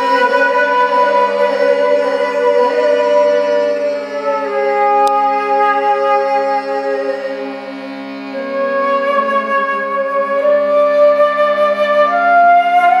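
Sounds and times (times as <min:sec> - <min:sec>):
harmonium drone and melody: 0:00.0 - 0:13.0.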